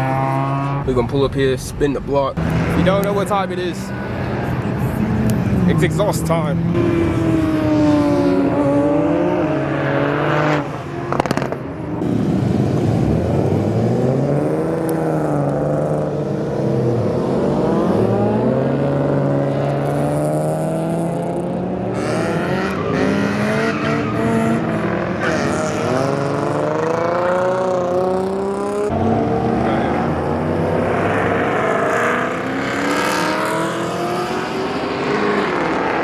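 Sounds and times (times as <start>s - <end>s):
car exhaust under hard acceleration: 2.4s - 36.0s.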